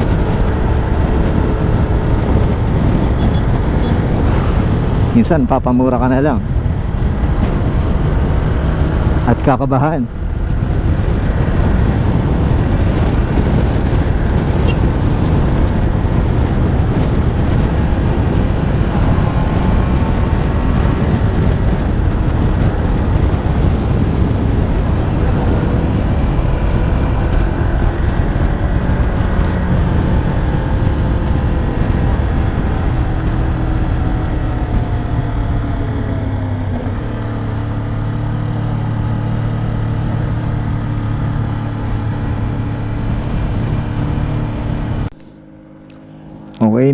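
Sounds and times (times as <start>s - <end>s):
heavy wind noise: 0.0s - 46.9s
motorcycle engine: 0.0s - 46.9s.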